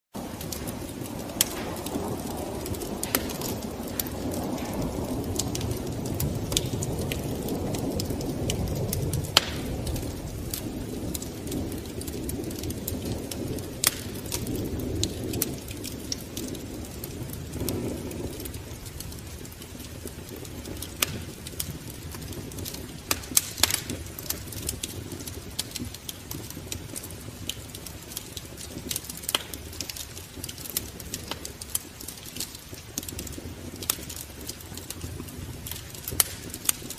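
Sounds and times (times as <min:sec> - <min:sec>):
low fire rumble: 0:00.2 - 0:36.9
wood fire crackling and popping: 0:00.2 - 0:36.9.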